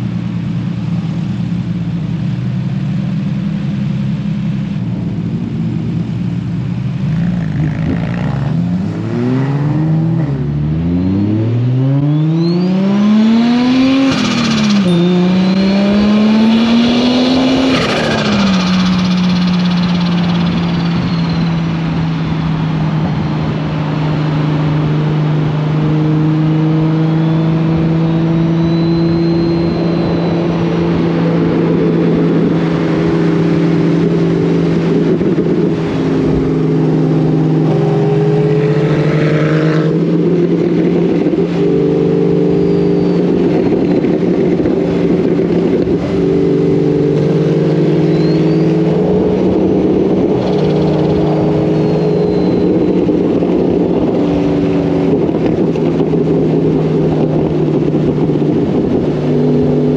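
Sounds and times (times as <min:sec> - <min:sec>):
car engine cruising: 0:00.0 - 0:59.9.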